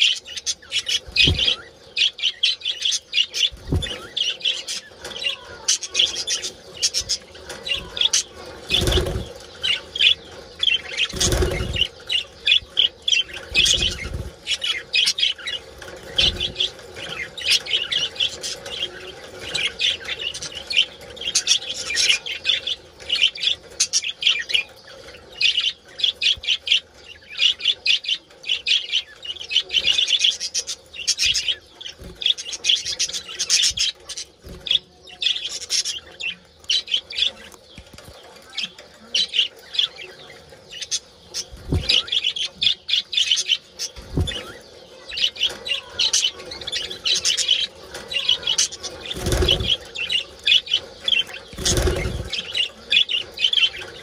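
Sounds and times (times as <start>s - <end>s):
budgerigars chattering: 0.0s - 54.0s.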